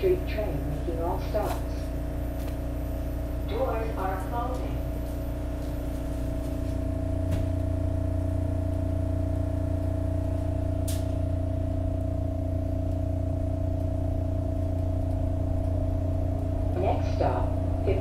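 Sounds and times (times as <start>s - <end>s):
train car electric hum: 0.0s - 18.0s.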